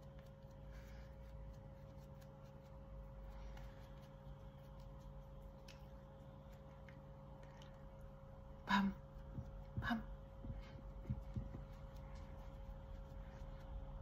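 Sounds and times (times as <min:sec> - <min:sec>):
brush on skin: 0:00.0 - 0:08.0, 0:10.6 - 0:14.0
low room hum: 0:00.0 - 0:14.0.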